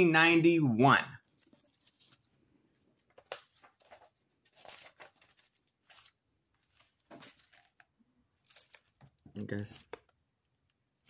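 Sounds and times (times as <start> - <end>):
paper pages rustling: 1.2 - 10.2.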